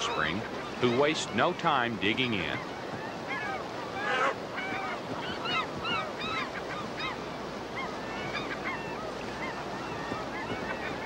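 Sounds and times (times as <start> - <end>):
fast river rushing: 0.0 - 11.0
gulls squawking: 0.0 - 11.0.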